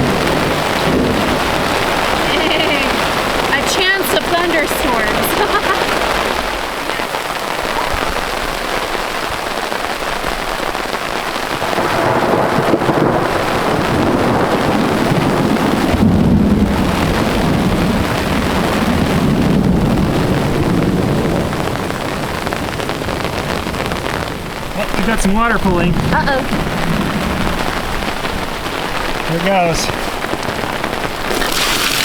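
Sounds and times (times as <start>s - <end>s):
heavy rain falling: 0.0s - 32.0s
low thunder rumbling: 0.0s - 32.0s.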